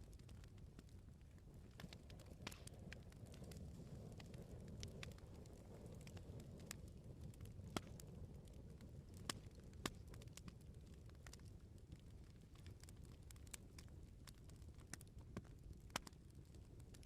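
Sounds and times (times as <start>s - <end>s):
firewood popping and snapping: 0.0s - 17.0s
wood bonfire crackling: 0.0s - 17.0s.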